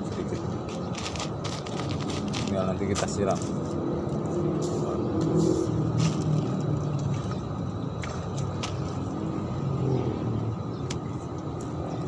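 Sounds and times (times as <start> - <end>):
engine rumble with wavering hum: 0.0 - 12.0.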